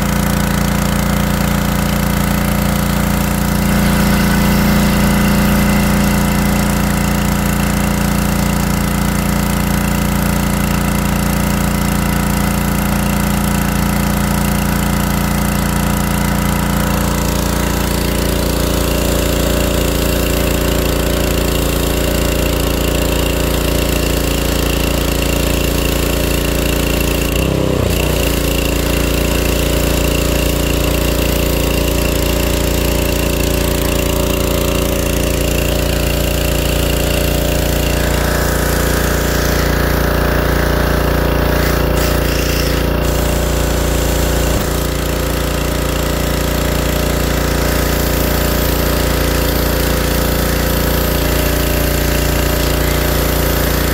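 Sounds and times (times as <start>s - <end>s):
small gasoline engine running: 0.0s - 53.9s
water spraying on car: 0.0s - 53.9s.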